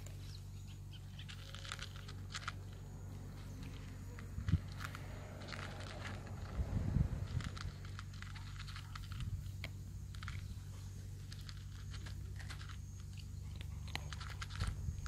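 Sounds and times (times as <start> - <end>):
cats crunching dry kibble: 0.0 - 15.0
low steady rumble: 0.0 - 15.0.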